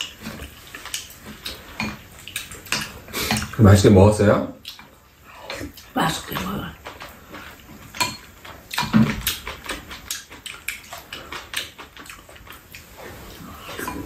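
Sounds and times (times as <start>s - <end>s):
utensils clicking on bowls: 0.0s - 3.8s, 4.6s - 14.0s
slurping and chewing: 0.0s - 3.9s, 4.5s - 14.0s.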